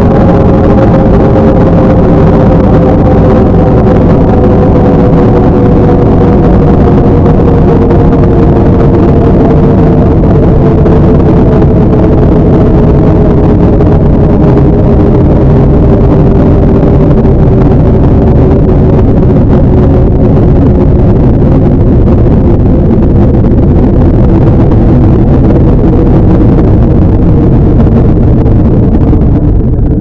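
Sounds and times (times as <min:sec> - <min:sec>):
distorted low drone: 0:00.0 - 0:30.0.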